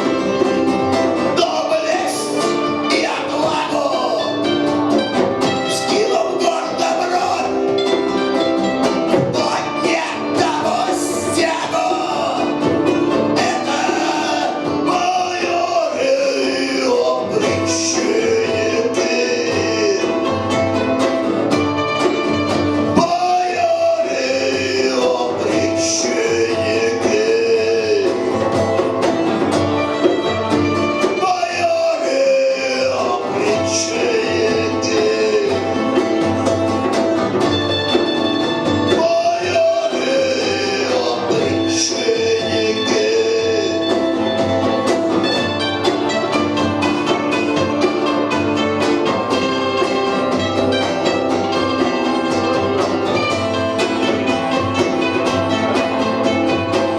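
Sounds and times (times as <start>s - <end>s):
punk rock band playing live: 0.0s - 56.9s.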